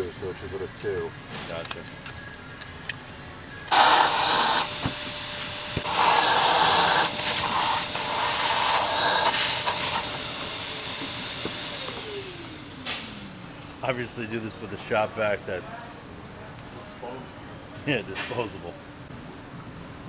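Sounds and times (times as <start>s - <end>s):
shop vac running: 3.2s - 20.0s.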